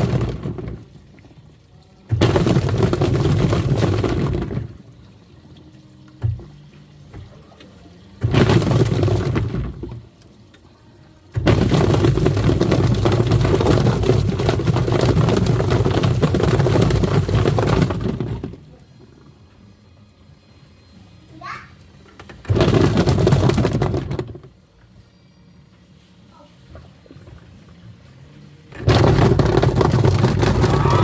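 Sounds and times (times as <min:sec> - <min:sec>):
washing machine churning water: 0:00.0 - 0:19.5, 0:22.2 - 0:24.6, 0:26.6 - 0:31.0.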